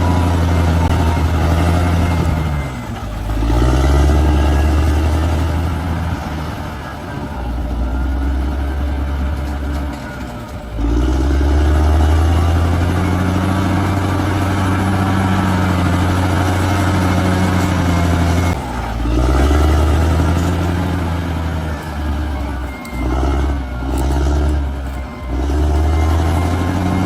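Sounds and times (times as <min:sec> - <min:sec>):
bulldozer diesel engine running: 0:00.0 - 0:27.0.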